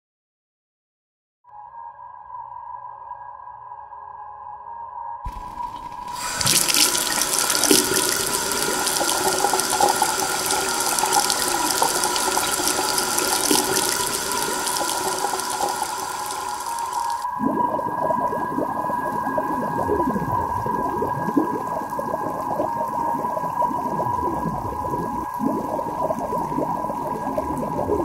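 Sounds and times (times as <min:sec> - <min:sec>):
water gushing into a sink: 0:05.3 - 0:28.0.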